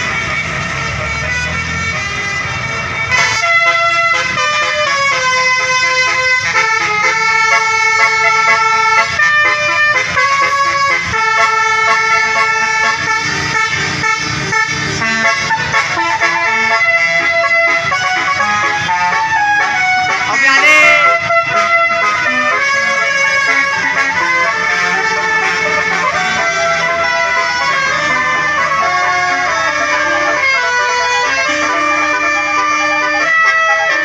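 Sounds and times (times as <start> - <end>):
bus engine rumble: 0.0 - 34.0
bus horn playing a tune: 0.0 - 34.0.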